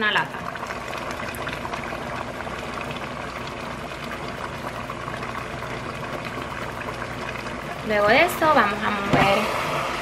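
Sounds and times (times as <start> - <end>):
meat sizzling in a pot: 0.0 - 10.0
sauce pouring: 0.4 - 10.0.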